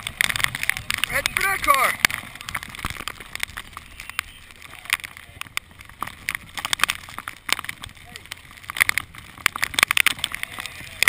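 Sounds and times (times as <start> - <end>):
rain tapping on camera: 0.0 - 11.0
wind noise on microphone: 0.0 - 11.0.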